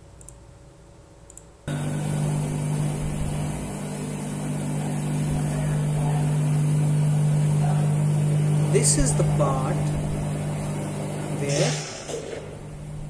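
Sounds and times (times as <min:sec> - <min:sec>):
grinding machine motor hum: 0:01.7 - 0:13.0
grinding wheel hiss: 0:01.7 - 0:13.0.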